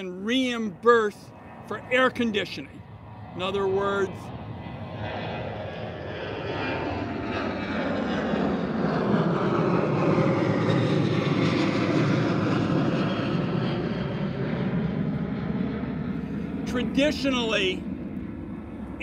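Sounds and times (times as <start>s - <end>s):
airplane engine rumble: 0.0s - 19.0s.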